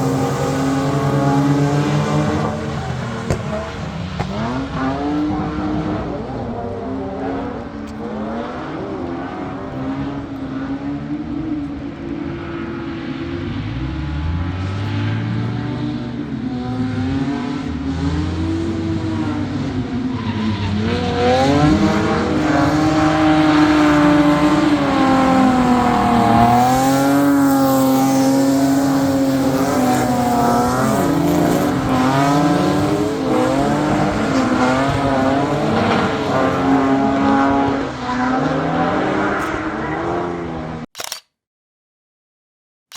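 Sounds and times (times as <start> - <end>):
car engines revving hard: 0.0 - 40.9.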